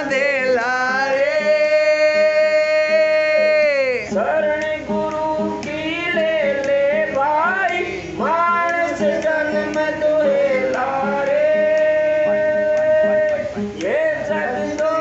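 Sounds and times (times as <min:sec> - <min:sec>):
held instrumental notes: 0:00.0 - 0:15.0
light regular beat: 0:00.0 - 0:15.0
man singing a hymn: 0:00.0 - 0:15.0.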